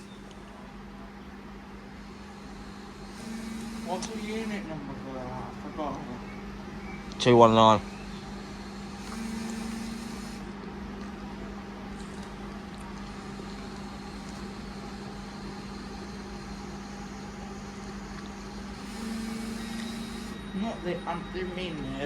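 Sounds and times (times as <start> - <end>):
electric train equipment humming: 0.0 - 22.0.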